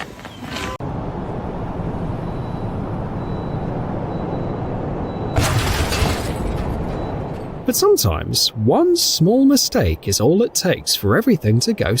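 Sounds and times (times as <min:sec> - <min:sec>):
vehicle rumbling: 0:00.0 - 0:11.2.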